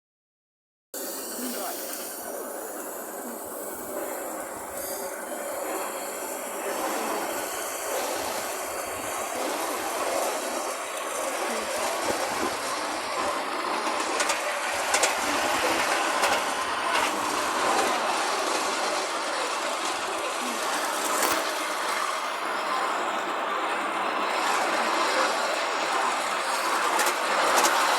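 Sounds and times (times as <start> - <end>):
train wheels rumbling on rail: 1.0 - 27.9.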